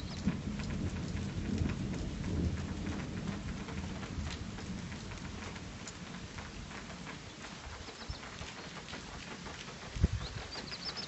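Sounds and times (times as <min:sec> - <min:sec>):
distant thunder rumbling: 0:00.0 - 0:09.2
raindrops tapping: 0:00.0 - 0:11.0.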